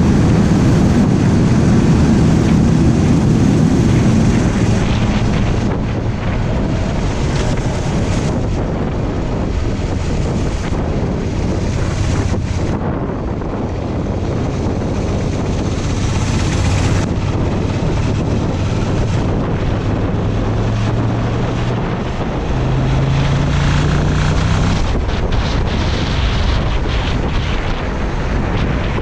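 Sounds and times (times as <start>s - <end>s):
motorcycle engine accelerating: 0.0s - 28.7s
wind rush on microphone: 0.0s - 29.0s.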